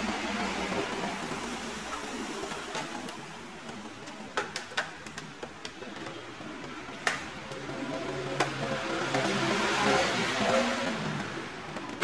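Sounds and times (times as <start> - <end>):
steady background hiss: 0.0 - 11.9.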